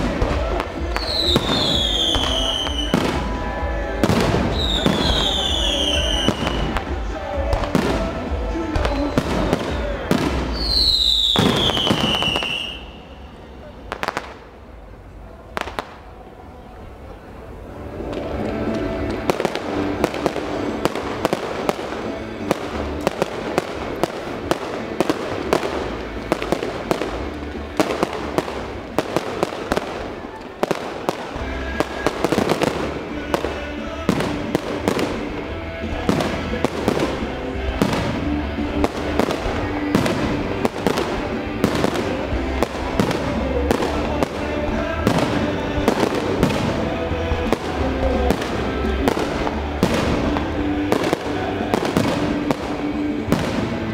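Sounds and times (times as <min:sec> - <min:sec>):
fireworks bursting: 0:00.0 - 0:53.9
music: 0:00.0 - 0:53.9.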